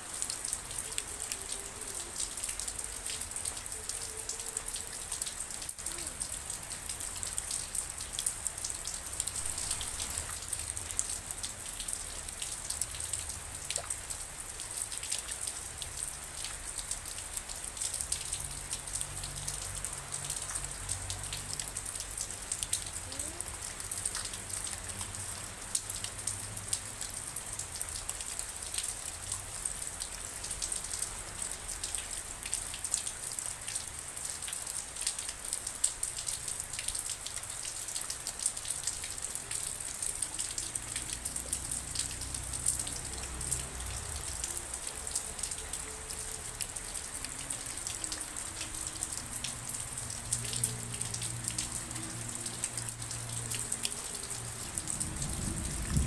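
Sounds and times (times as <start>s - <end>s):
rainfall with ticking drops: 0.0s - 56.0s.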